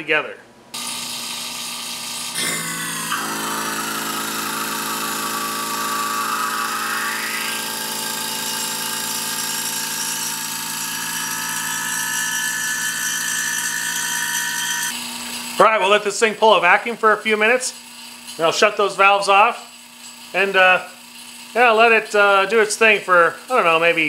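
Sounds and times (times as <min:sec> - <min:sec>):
vacuum pump humming: 0:00.8 - 0:24.0.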